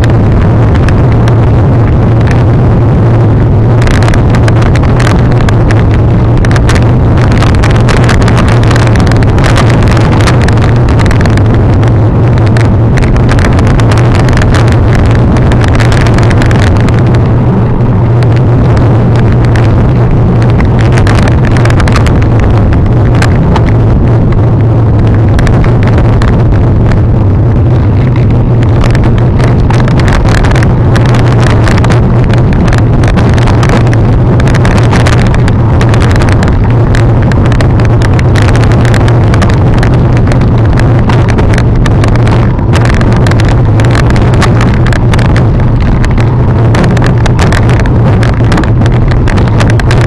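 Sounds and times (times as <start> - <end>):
rushing rumble of bike descent: 0.0 - 50.0.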